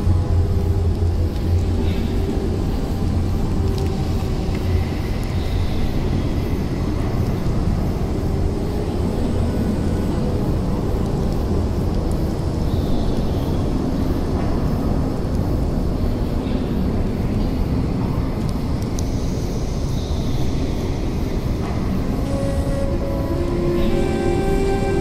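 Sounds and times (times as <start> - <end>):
dark ambient drone music: 0.0 - 25.0.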